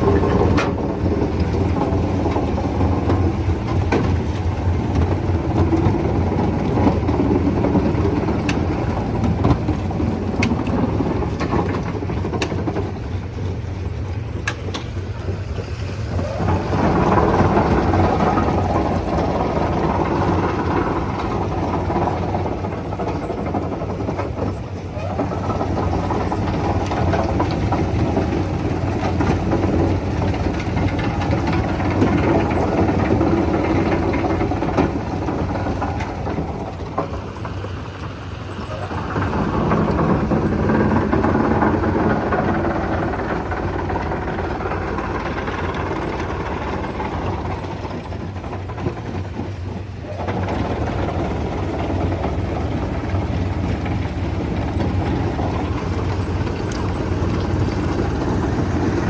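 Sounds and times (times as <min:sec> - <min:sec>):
stone crusher engine drone: 0:00.0 - 0:59.0.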